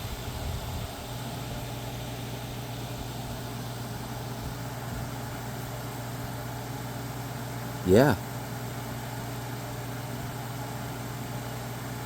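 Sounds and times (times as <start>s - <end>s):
fan air rushing: 0.0s - 11.0s
dehumidifier humming: 0.0s - 12.0s.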